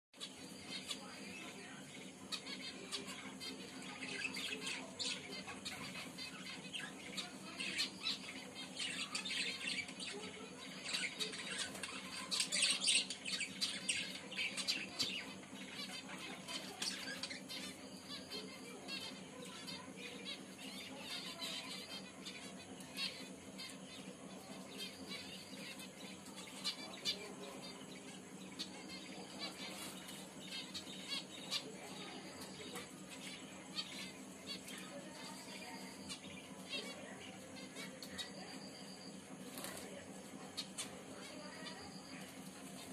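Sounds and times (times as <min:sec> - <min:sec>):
finches chirping: 0:00.1 - 0:42.9.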